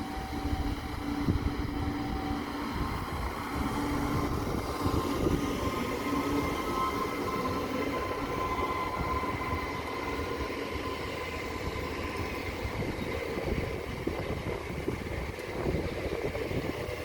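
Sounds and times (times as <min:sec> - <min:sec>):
rumble of running train: 0:00.0 - 0:17.0.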